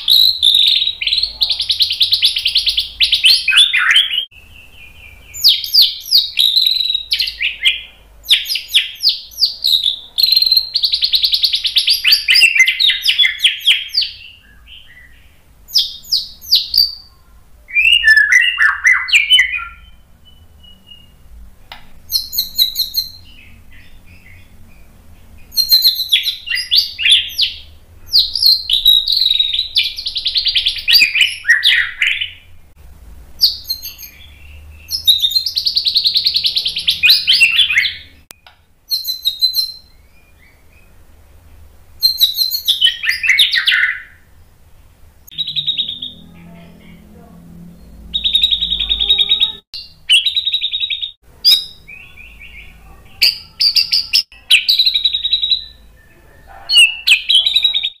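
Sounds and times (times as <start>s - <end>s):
bird singing trills and whistles: 0.0s - 21.4s, 22.1s - 32.5s, 33.4s - 41.0s, 42.0s - 44.3s, 45.3s - 46.7s, 47.7s - 58.0s.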